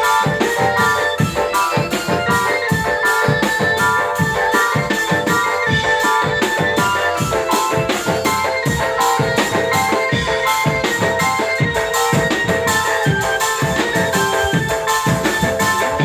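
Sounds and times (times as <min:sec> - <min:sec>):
drums beating busy rhythm: 0:00.0 - 0:16.0
keyboard melody: 0:00.0 - 0:16.0.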